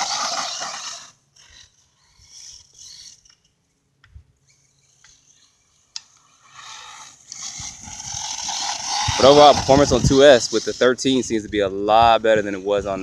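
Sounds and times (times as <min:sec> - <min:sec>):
rc truck motor and tyre noise: 0:00.0 - 0:13.0.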